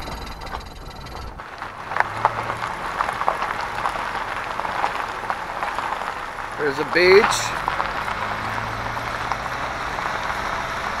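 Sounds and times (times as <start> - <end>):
stones popping and crackling: 0.0 - 10.4
tyres crunching on gravel: 0.0 - 11.0.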